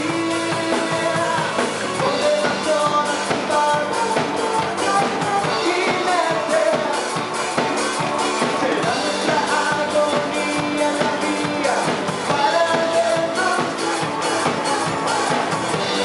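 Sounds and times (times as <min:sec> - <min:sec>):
drum kit beat: 0:00.0 - 0:16.0
electric guitar: 0:00.0 - 0:16.0
person singing: 0:00.0 - 0:16.0.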